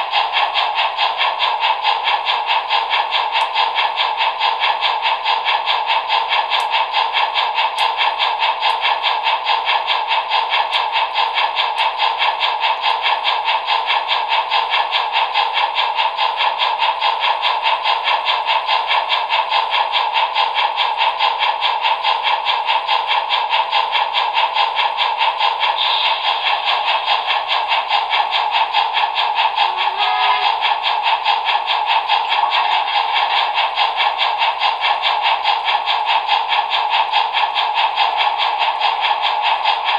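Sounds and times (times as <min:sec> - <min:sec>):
steam chuffs through small speaker: 0:00.0 - 0:39.9.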